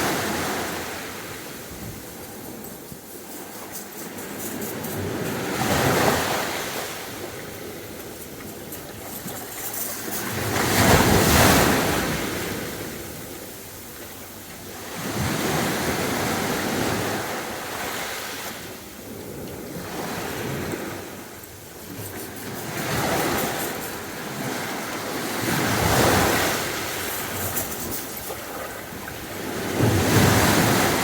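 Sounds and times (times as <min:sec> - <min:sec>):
sea waves breaking on beach: 0:00.0 - 0:31.0.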